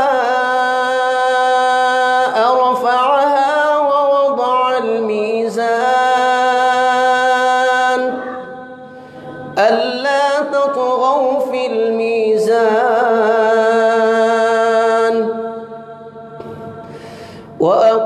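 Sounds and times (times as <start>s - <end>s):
man chanting through microphone: 0.0s - 16.9s, 17.5s - 18.0s.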